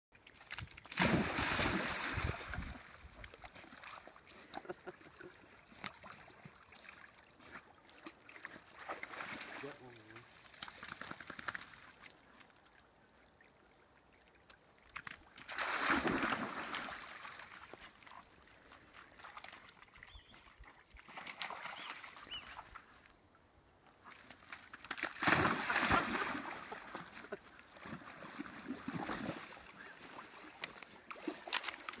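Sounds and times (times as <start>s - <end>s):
dogs splashing through water: 0.2s - 12.1s, 15.0s - 22.7s, 24.1s - 32.0s.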